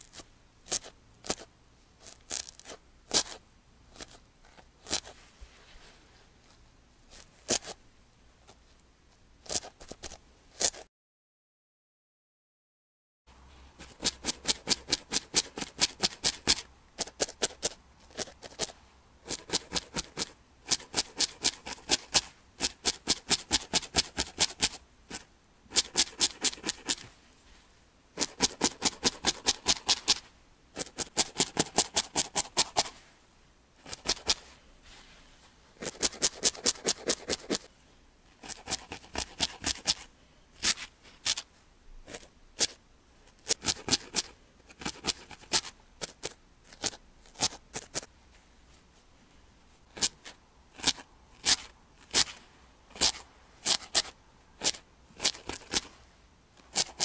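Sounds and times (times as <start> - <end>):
felting needle poking felt: 0.0 - 5.3, 6.5 - 7.8, 8.4 - 10.9, 13.8 - 33.0, 33.8 - 35.1, 35.8 - 37.7, 38.3 - 48.4, 49.8 - 57.0.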